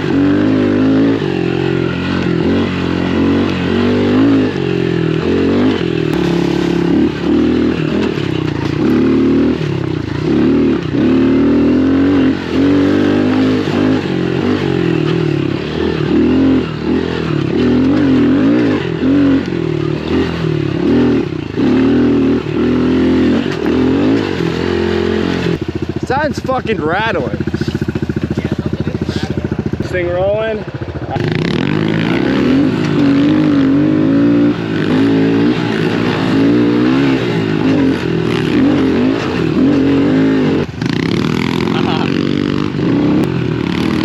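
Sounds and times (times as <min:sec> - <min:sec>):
pit bike engine revving: 0:00.0 - 0:44.0.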